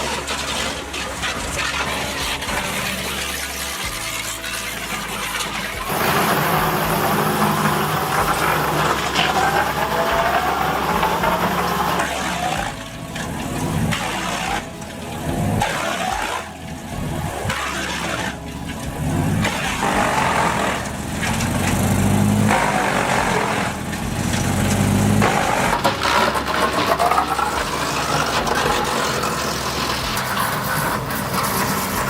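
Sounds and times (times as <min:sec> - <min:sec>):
rough grinding of chipping: 0:00.0 - 0:32.0
wood chipper engine: 0:00.0 - 0:32.0.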